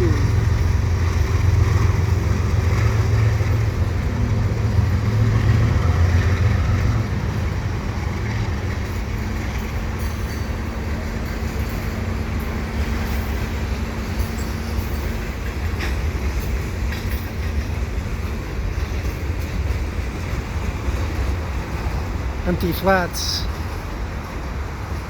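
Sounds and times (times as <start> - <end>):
diesel locomotive rumbling past: 0.0 - 25.0
freight cars rolling: 0.0 - 25.0.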